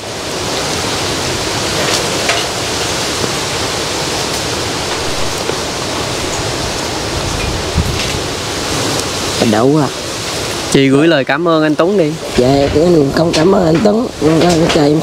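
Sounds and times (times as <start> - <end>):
wind blowing on microphone: 0.0 - 15.0.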